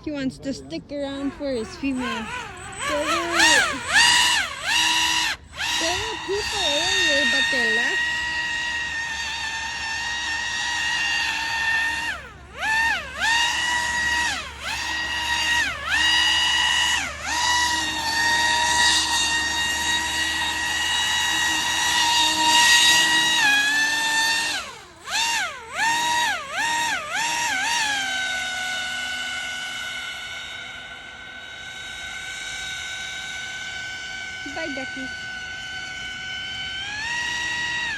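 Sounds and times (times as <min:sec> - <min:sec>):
model airboat motor whining: 0:00.0 - 0:37.9.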